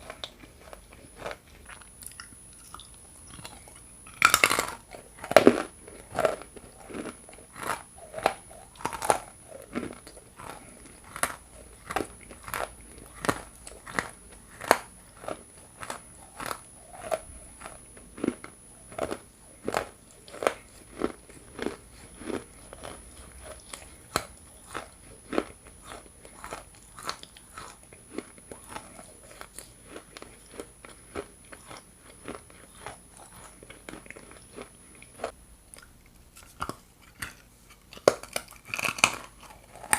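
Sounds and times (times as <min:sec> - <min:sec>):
chewing crunches: 0:00.0 - 0:39.9.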